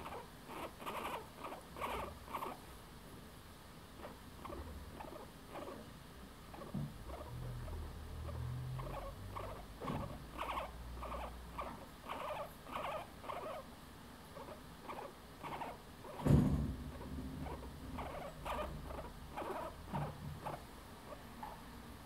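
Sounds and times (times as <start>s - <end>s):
guinea pig purring: 0.0s - 2.7s, 4.0s - 13.7s, 14.3s - 21.6s.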